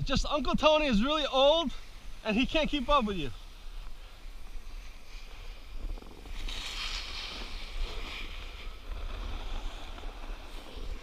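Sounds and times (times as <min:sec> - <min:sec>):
wind rumbling on microphone: 0:00.0 - 0:11.0
snowboard edge scraping snow: 0:00.8 - 0:11.0.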